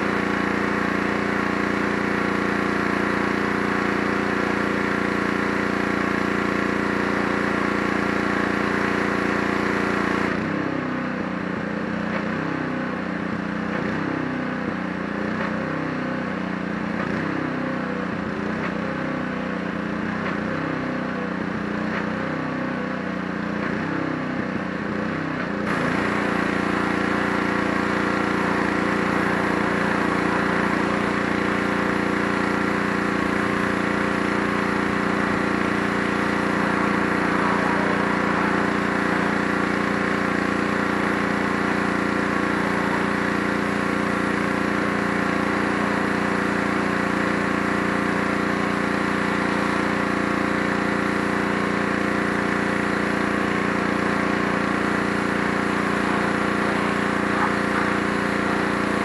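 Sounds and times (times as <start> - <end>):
pressure washer engine running: 0.0 - 59.0.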